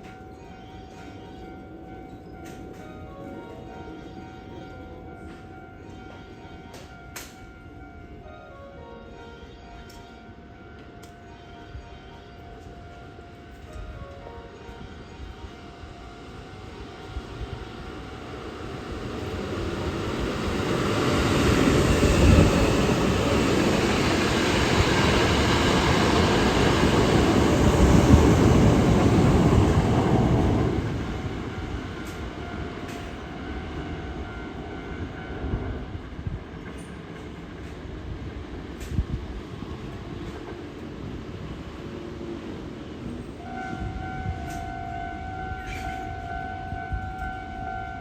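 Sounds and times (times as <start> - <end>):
electric train rumbling past: 0.0 - 48.0.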